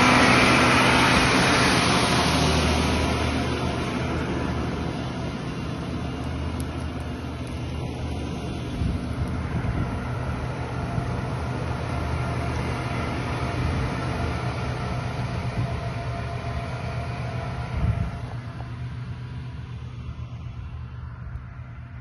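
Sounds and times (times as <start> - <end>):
tractor engine droning under load: 0.0 - 22.0.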